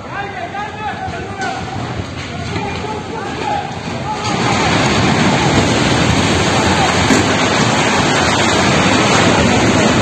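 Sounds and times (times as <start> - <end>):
faint voices: 0.0 - 5.1, 6.3 - 10.0
loud rushing noise: 1.3 - 10.0.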